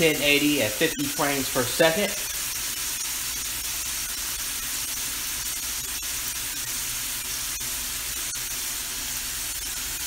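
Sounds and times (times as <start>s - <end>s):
food sizzling in a skillet: 0.0s - 10.0s.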